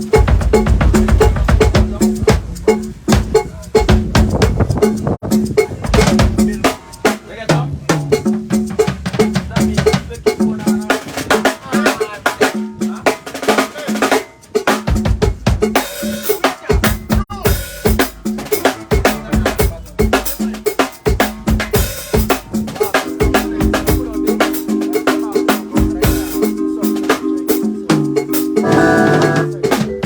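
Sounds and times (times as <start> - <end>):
drum-heavy music: 0.0 - 30.0.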